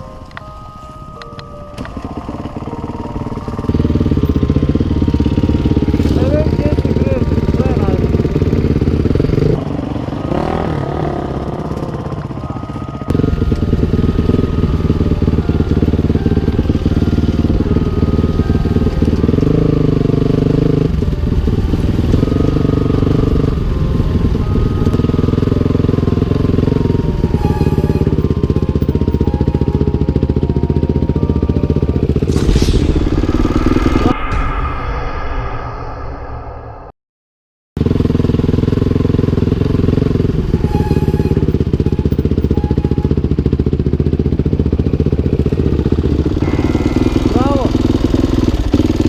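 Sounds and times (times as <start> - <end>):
dirt bike engine running: 1.8 - 32.7, 37.8 - 49.0.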